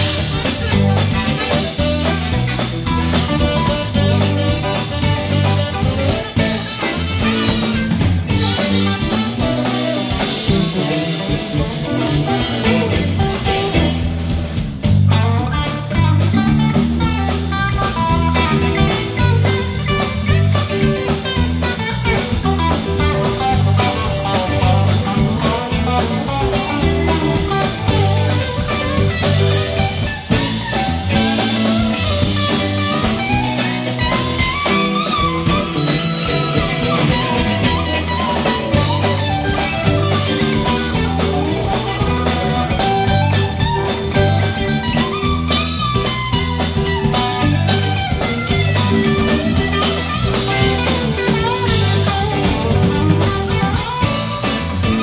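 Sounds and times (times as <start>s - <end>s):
blues-rock guitar playing: 0.0s - 55.0s
drum kit steady beat: 0.0s - 55.0s.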